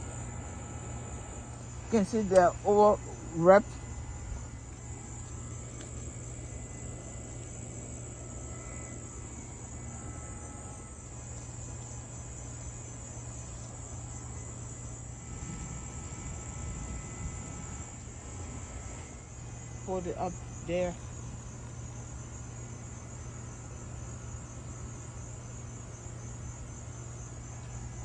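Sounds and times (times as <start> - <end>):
insects trilling: 0.0 - 28.0
low steady hum: 0.0 - 28.0.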